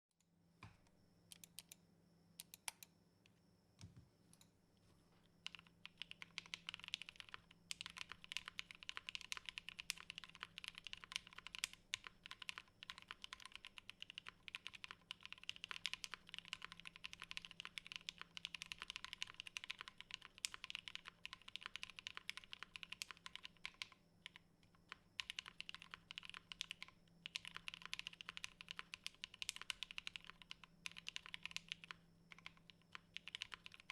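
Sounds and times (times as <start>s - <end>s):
mechanical keyboard typing: 5.4s - 33.9s.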